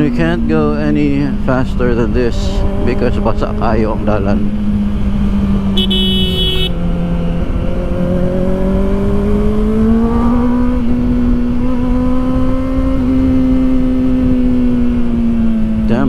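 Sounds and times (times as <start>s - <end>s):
motorcycle engine at speed: 0.0s - 16.0s.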